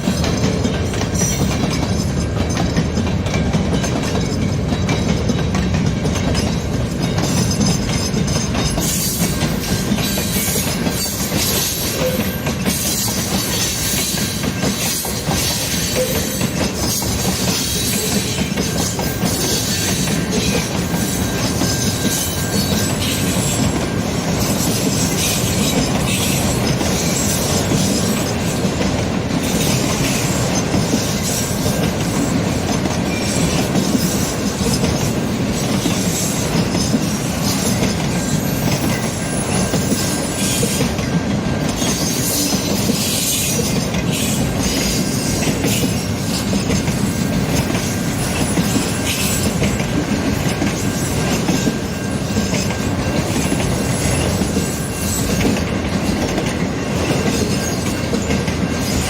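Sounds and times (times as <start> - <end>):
freight train rumbling past: 0.0 - 59.0
wheels clicking over rail joints: 0.0 - 59.0.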